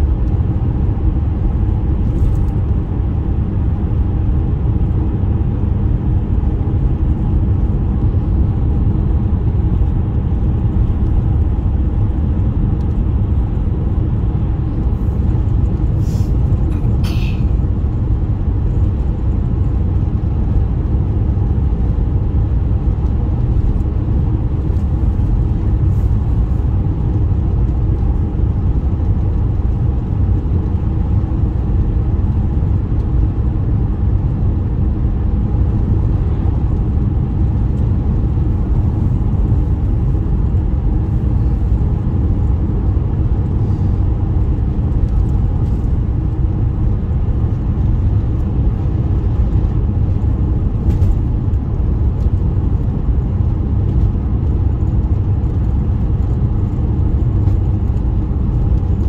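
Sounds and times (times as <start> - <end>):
vehicle engine and tyre rumble: 0.0 - 59.0.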